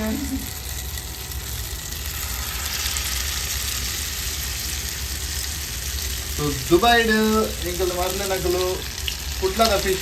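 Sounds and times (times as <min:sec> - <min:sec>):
fish sizzling in hot oil: 0:00.0 - 0:10.0
low steady hum: 0:00.0 - 0:10.0.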